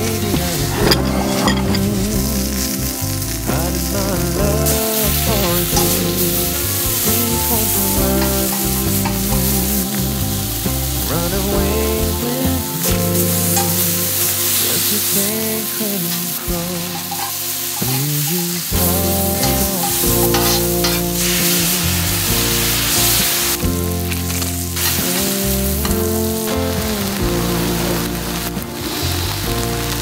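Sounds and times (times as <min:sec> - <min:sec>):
background music: 0:00.0 - 0:30.0
food sizzling on griddle: 0:00.0 - 0:30.0.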